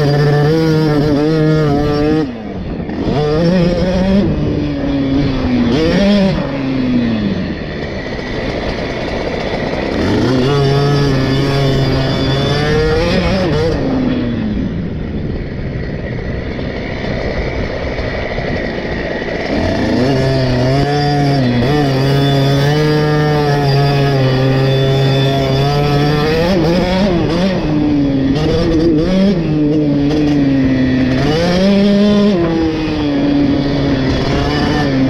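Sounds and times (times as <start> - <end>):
two-stroke motorcycle engine revving: 0.0 - 35.0.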